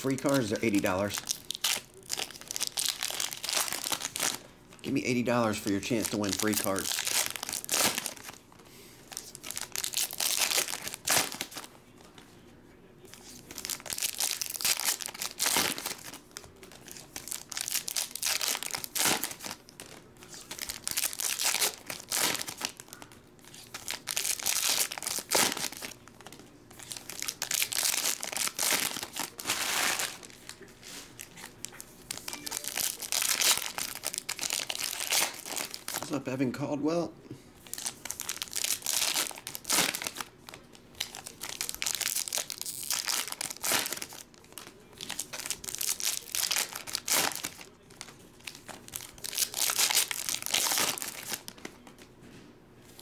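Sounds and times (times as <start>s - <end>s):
foil wrappers crinkling and tearing: 0.0s - 8.4s, 9.0s - 11.7s, 13.1s - 36.2s, 37.6s - 52.1s.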